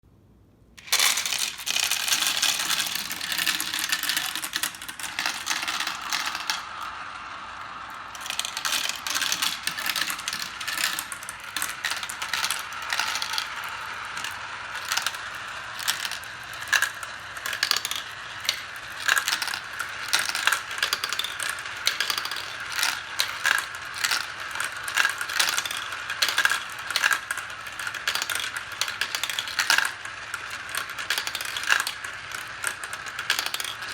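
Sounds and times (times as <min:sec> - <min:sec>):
marbles clicking and clacking: 0:00.8 - 0:33.9
marbles rolling on a track: 0:00.8 - 0:33.9.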